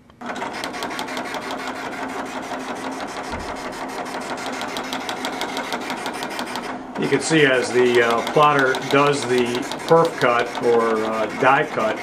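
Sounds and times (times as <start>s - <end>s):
steady machine hum: 0.0s - 12.0s
cutting plotter rapid clicks: 0.2s - 12.0s.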